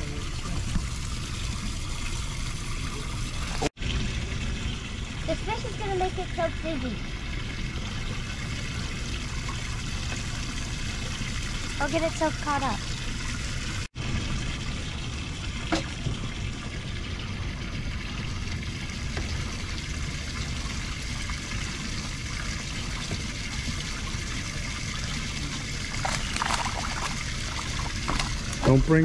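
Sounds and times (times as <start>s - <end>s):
trickling water: 0.0s - 29.0s.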